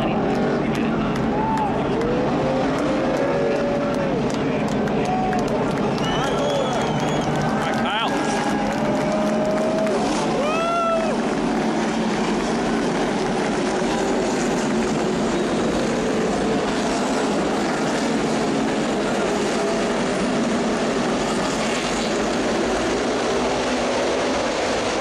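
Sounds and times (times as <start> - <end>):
racing car engines: 0.0 - 25.0.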